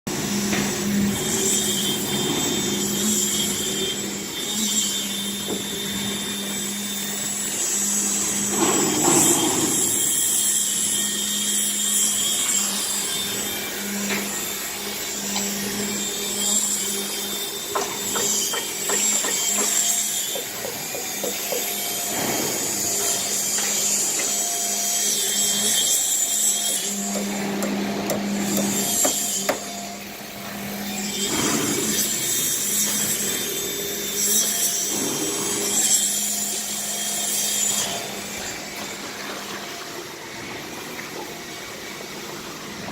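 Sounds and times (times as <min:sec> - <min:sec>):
concrete pump humming: 0:00.1 - 0:42.9.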